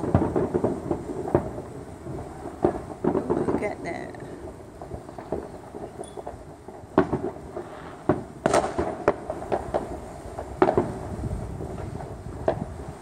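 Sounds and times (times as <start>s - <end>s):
fireworks banging: 0.0s - 13.0s
fireworks crackling hiss: 0.0s - 13.0s.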